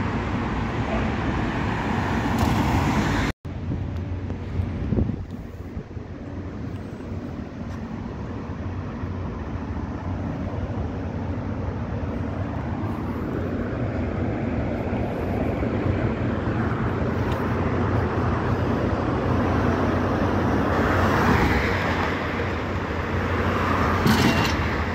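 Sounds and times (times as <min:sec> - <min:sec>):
road noise: 0:00.0 - 0:24.9.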